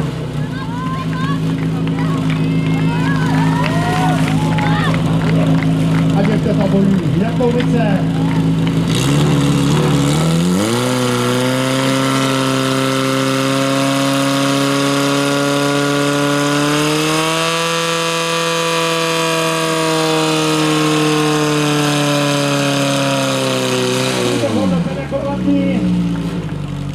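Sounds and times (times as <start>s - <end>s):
pump engine running at high revs: 0.0s - 26.9s.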